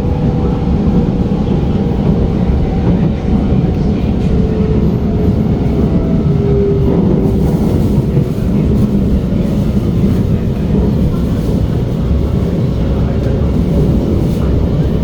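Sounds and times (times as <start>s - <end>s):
metro train wheels rumbling: 0.0s - 15.0s.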